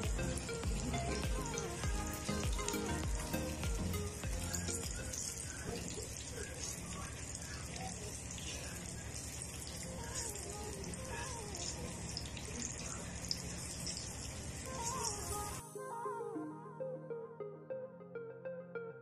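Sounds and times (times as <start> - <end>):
food sizzling on a stove: 0.0 - 15.6.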